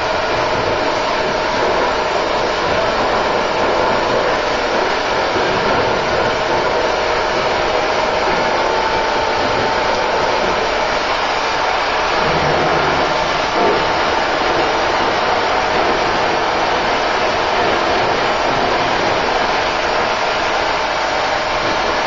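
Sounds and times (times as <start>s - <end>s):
cutting torch hissing: 0.0s - 22.0s.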